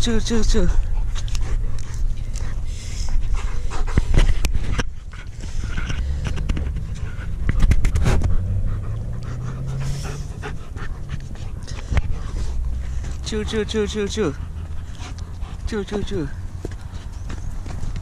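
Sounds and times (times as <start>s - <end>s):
steady low rumble: 0.0s - 18.0s
dog panting hard: 0.2s - 18.0s.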